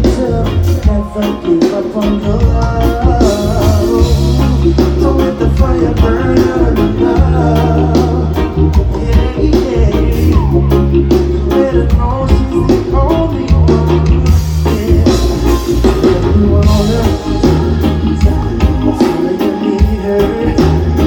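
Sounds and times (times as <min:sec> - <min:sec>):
bass guitar: 0:00.0 - 0:21.0
lead singer: 0:00.0 - 0:21.0
reggae band playing live: 0:00.0 - 0:21.0
steady drumbeat: 0:00.0 - 0:21.0.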